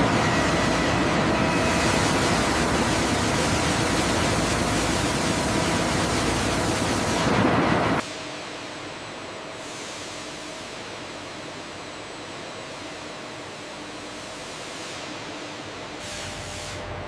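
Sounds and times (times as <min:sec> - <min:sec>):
loud steady machinery hiss: 0:00.0 - 0:17.0.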